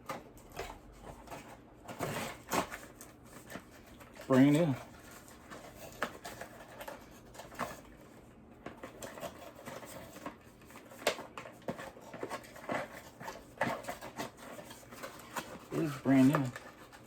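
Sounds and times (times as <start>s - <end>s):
packaging rustling: 0.0s - 17.0s.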